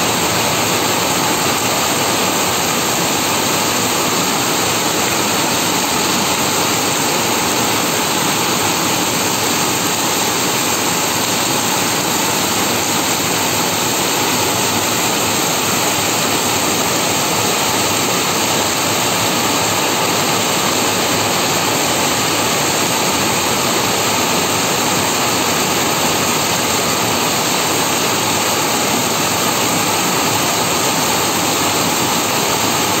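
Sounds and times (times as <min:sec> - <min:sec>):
heavy rain on concrete: 0:00.0 - 0:33.0.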